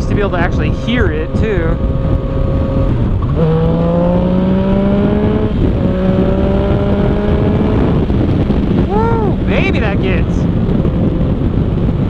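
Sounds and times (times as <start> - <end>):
motorcycle engine accelerating: 0.0 - 12.0
wind rush: 0.0 - 12.0.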